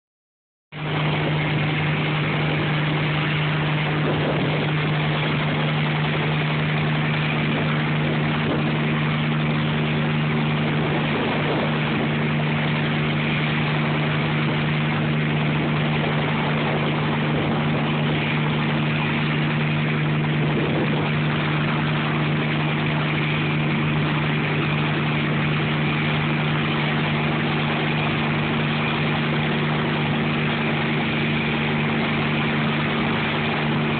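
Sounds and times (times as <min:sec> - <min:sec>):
helicopter hovering: 0:00.8 - 0:33.9.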